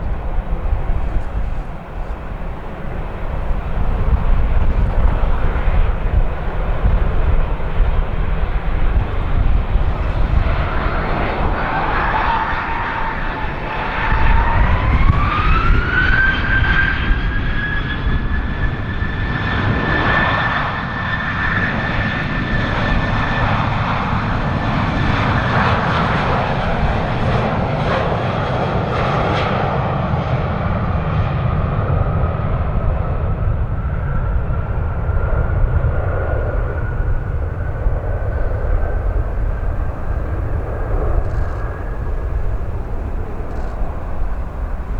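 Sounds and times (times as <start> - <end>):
jet engines spooling up: 0.0 - 25.1, 33.4 - 44.9.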